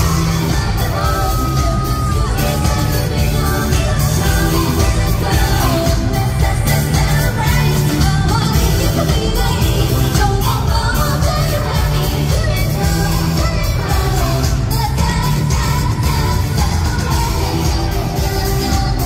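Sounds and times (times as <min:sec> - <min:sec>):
group singing into microphones: 0:00.0 - 0:19.0
pop backing track: 0:00.0 - 0:19.0.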